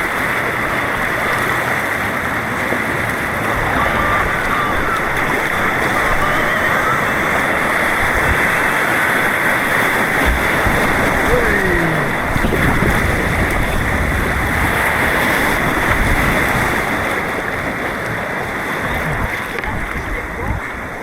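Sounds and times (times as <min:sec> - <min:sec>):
rushing white water: 0:00.0 - 0:21.0.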